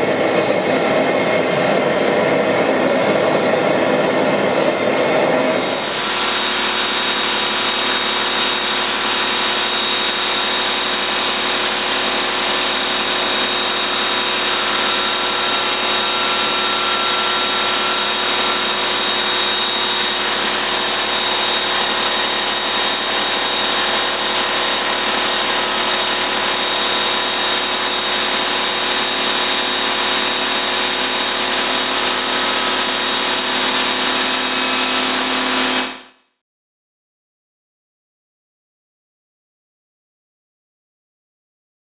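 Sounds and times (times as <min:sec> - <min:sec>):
workshop machine hissing and whining: 0:00.0 - 0:36.1.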